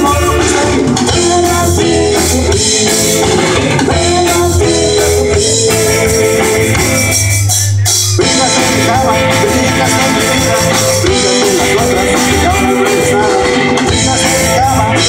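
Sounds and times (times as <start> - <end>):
drum kit: 0.0 - 15.0
electric guitars: 0.0 - 15.0.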